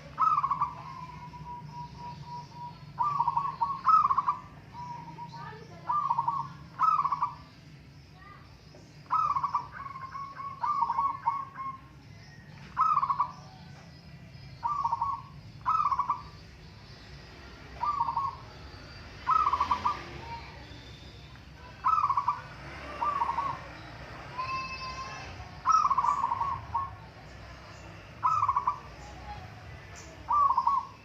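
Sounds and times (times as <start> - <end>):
doves cooing: 0.0 - 7.8, 8.7 - 31.0.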